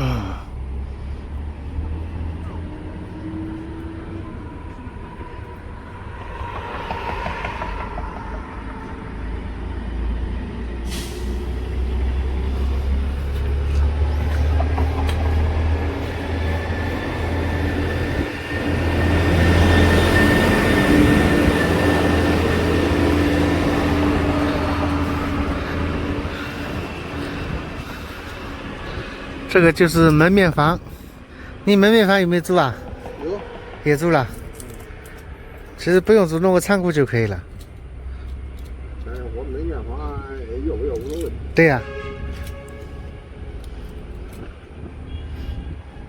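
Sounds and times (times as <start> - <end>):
heavy vehicle engine rumbling: 0.0 - 46.0.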